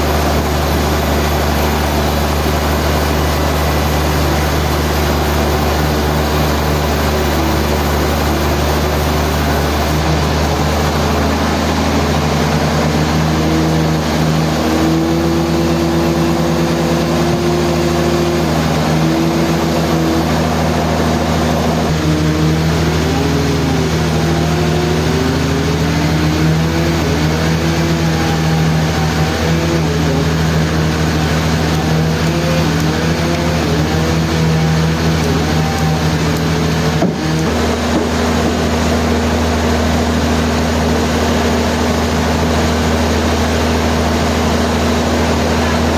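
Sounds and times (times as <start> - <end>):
sawmill motor drone: 0.0 - 45.9
wavering whine: 0.0 - 45.9.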